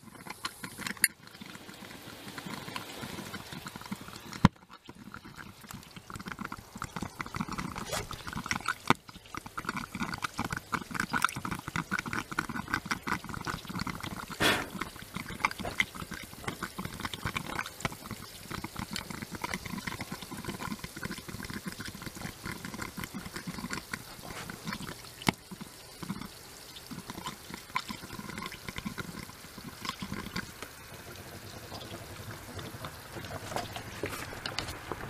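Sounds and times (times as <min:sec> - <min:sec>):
gas bubbling through water: 0:00.0 - 0:35.0.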